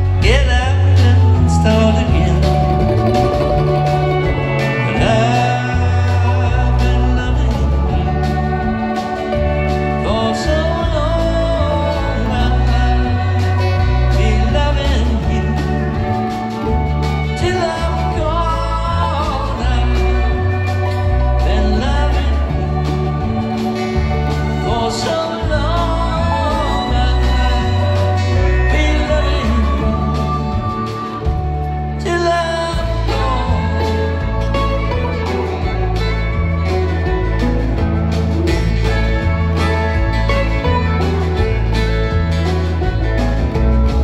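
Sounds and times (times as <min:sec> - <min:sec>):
drums: 0:00.0 - 0:44.0
fiddle: 0:00.0 - 0:44.0
person singing: 0:00.0 - 0:44.0
strummed acoustic guitar: 0:00.0 - 0:44.0
upright bass notes: 0:00.0 - 0:44.0.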